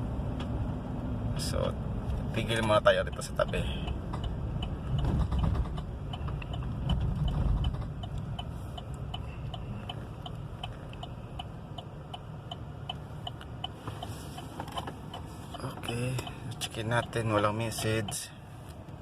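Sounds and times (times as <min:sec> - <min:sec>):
car engine rumbling: 0:00.0 - 0:19.0
turn signal ticking: 0:00.2 - 0:19.0.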